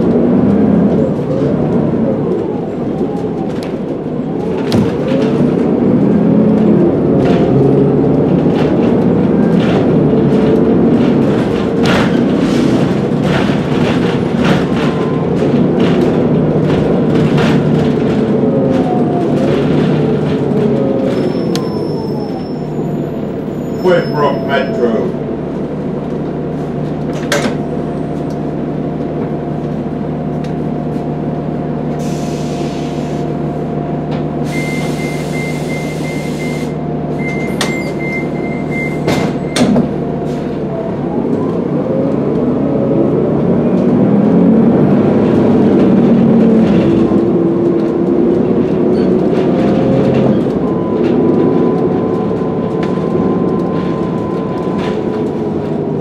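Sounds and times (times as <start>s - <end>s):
diesel bus engine idling: 0.0s - 56.0s.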